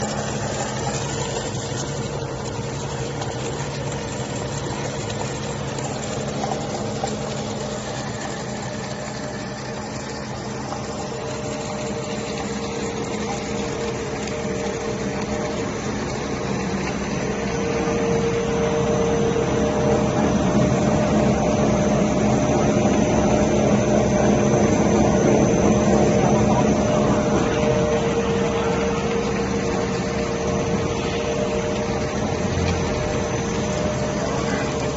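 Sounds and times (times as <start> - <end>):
high machine whine: 0.0 - 34.9
machinery motor hum: 0.0 - 34.9.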